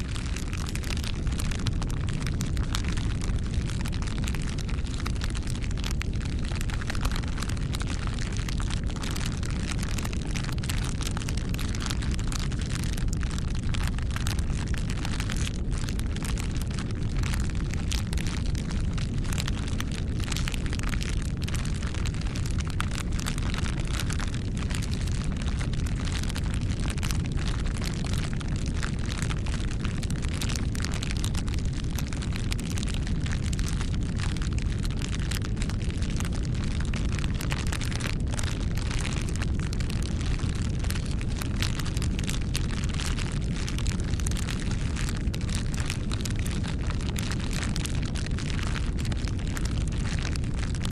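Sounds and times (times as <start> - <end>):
fire crackles and pops: 0.0 - 50.9
low rumble of flames: 0.0 - 50.9.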